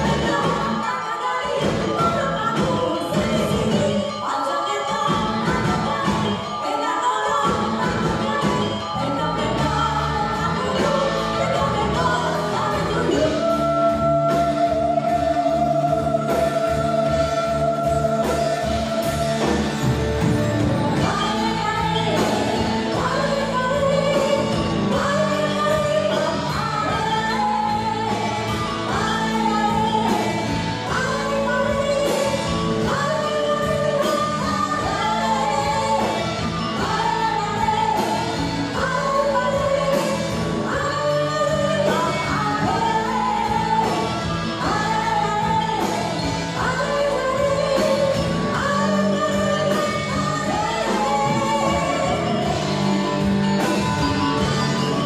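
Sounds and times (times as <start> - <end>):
fusion band with gamelan: 0.0 - 55.0
women singing: 0.0 - 55.0.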